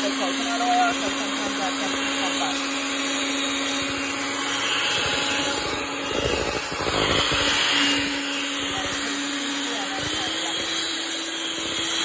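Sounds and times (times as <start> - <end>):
electric mixer whirring: 0.0 - 12.0.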